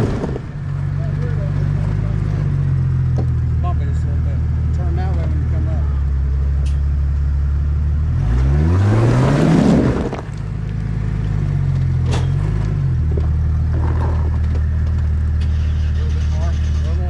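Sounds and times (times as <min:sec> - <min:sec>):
car engine running and revving: 0:00.0 - 0:17.0.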